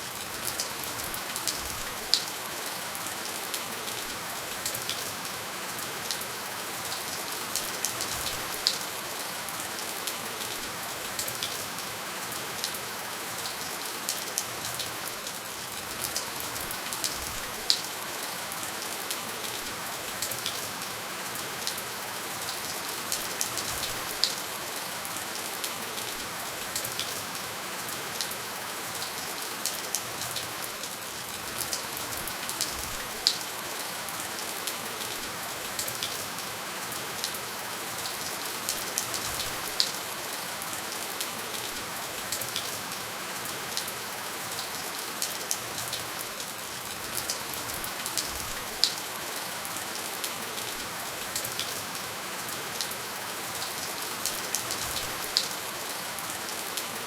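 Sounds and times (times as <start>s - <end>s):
raindrops ticking on a surface: 0.0s - 57.0s
steady rainfall hiss: 0.0s - 57.0s.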